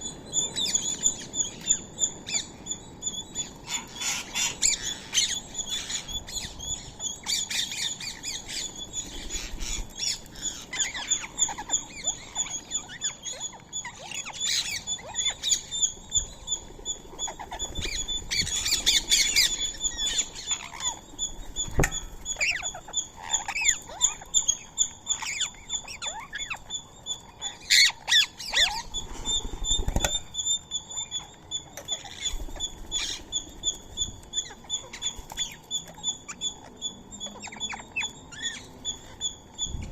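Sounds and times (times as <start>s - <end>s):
parakeets squawking and chirping: 0.0s - 39.9s.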